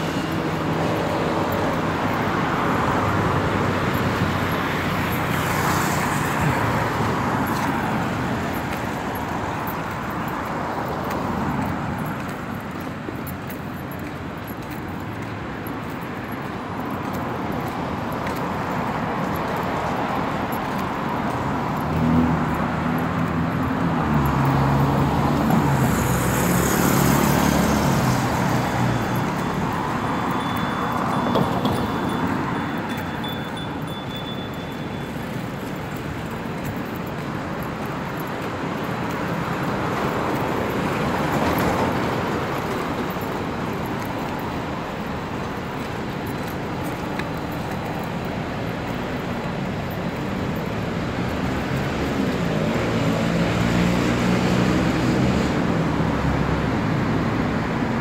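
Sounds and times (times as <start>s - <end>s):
cars passing on a road: 0.0s - 58.0s.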